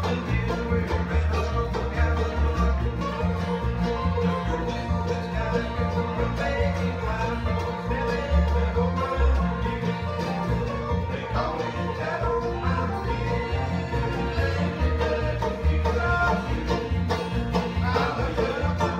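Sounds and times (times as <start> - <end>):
acoustic guitar strumming: 0.0 - 18.9
banjo rolls: 0.0 - 18.9
mandolin: 0.0 - 18.9
plucked upright bass: 0.0 - 18.9.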